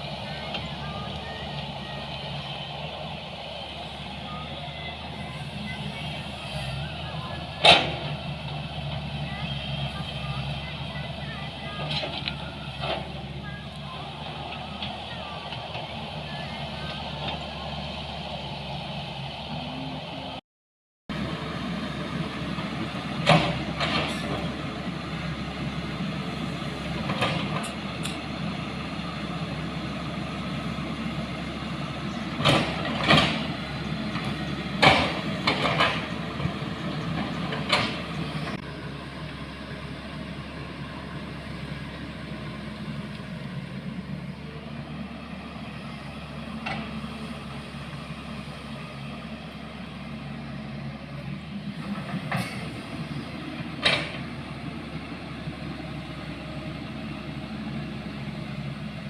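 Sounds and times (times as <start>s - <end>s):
vehicle engine running: 0.0s - 20.4s, 21.1s - 59.0s.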